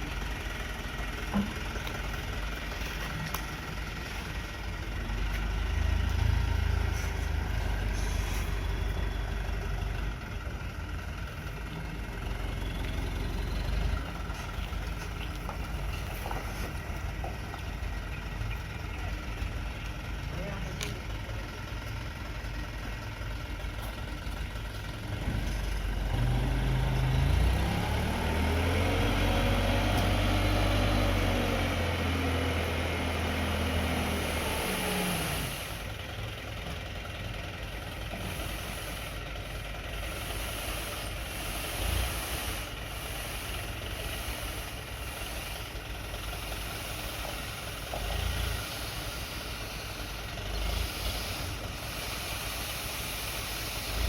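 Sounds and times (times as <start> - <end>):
dump truck engine working hard: 0.0 - 54.0.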